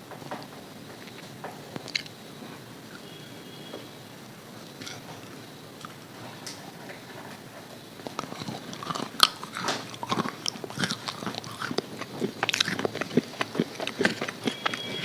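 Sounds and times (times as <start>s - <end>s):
crunchy chewing of fried chicken: 0.3s - 3.7s, 4.6s - 15.0s.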